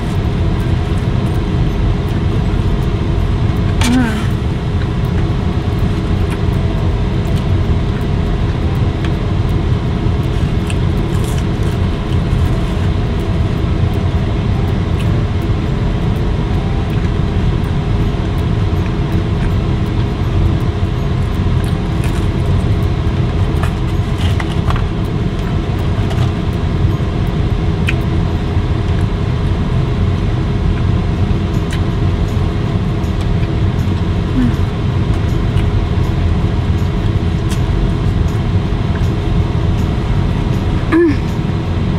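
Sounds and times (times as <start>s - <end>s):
car running heard from inside: 0.0s - 41.9s.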